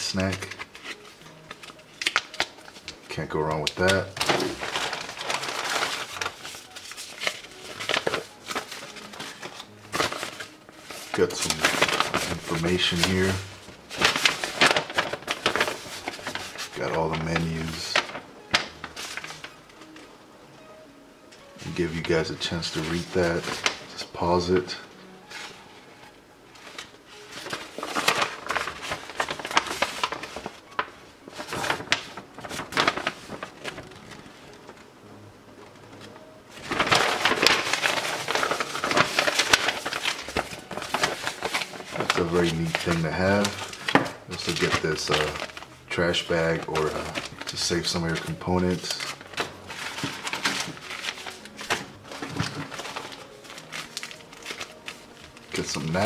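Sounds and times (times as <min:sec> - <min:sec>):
paper rustling and crinkling: 0:00.0 - 0:20.1, 0:21.4 - 0:34.9, 0:35.6 - 0:56.0.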